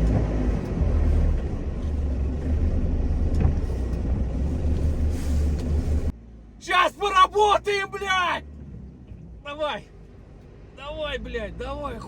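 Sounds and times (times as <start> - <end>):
van engine droning under load: 0.0 - 12.0.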